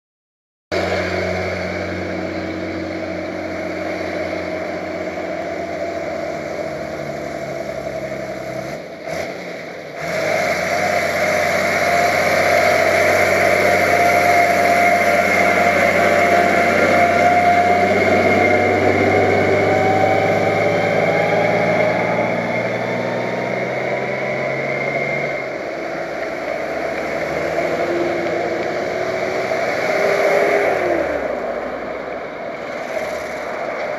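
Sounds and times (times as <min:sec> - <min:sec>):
truck approaching: 0:00.7 - 0:33.9
vehicle engine and road noise: 0:00.7 - 0:33.9.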